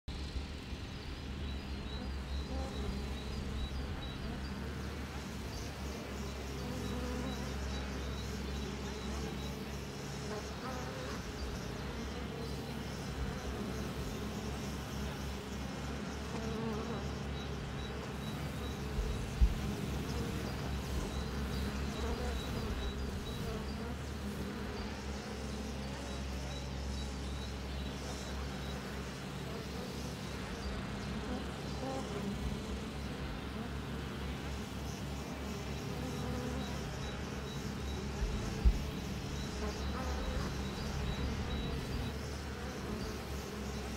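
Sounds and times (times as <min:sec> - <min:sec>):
bees buzzing: 0:00.2 - 0:43.9.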